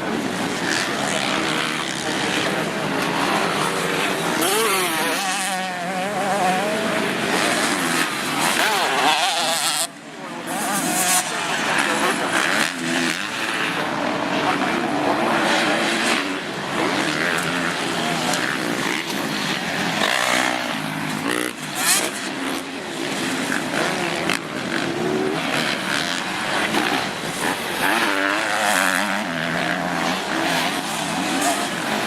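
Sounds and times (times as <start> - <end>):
motocross motorcycle engines revving: 0.0 - 32.0.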